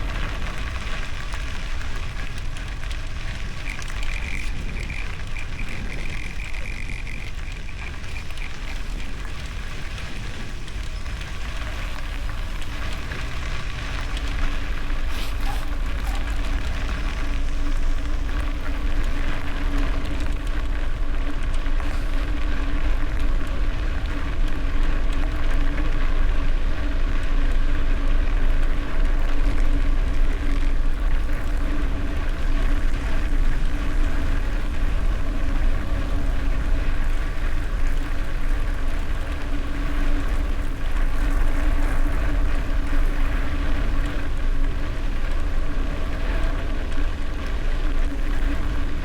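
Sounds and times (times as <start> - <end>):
tyres crackling over gravel: 0.0 - 49.0
wind buffeting microphone: 0.0 - 49.0.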